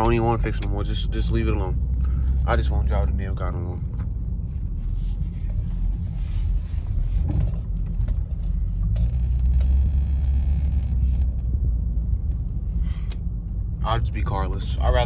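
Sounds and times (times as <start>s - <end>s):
car engine rumble: 0.0s - 15.0s
road noise inside car: 0.0s - 15.0s.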